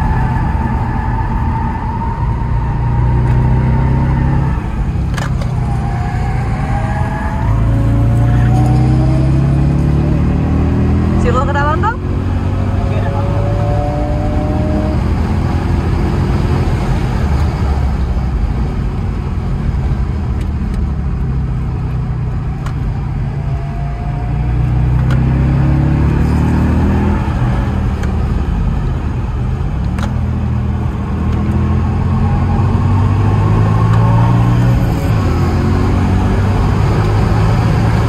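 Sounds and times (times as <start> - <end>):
car engine: 0.0 - 38.0
road rumble: 0.0 - 38.0.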